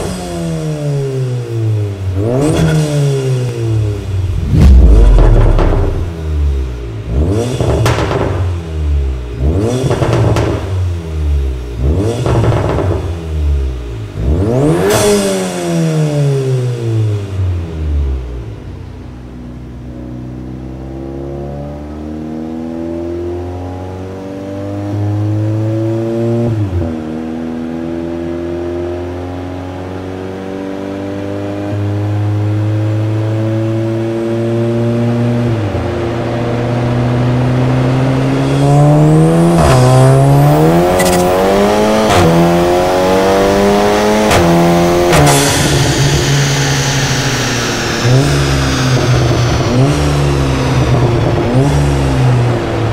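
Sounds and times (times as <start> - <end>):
car engine revving under load: 0.0 - 18.6, 21.1 - 52.9.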